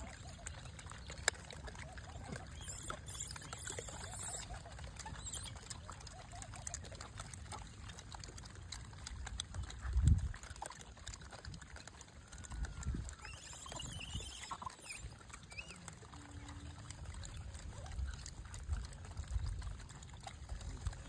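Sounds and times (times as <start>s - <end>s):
clicks and rustles of chewing: 0.0s - 21.0s.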